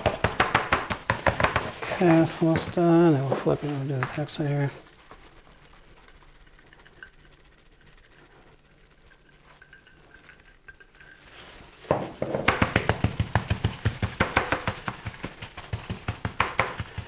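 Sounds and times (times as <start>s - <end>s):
gloved hands patting meat: 0.0s - 8.5s, 11.8s - 17.0s.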